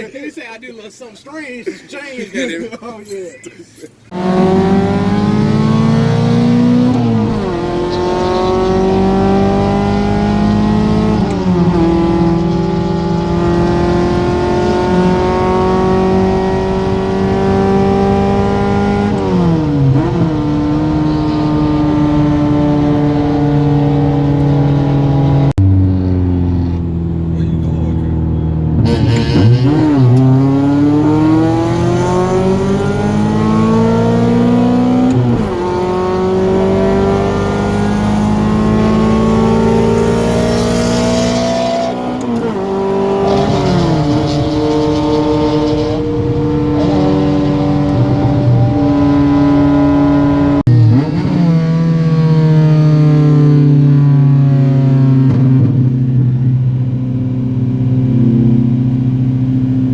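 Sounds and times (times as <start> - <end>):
car engine accelerating: 4.1 - 59.9.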